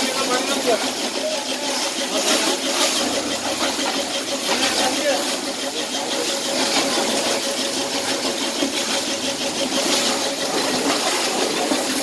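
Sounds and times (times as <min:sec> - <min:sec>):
pressure washer pump drone: 0:00.0 - 0:12.0.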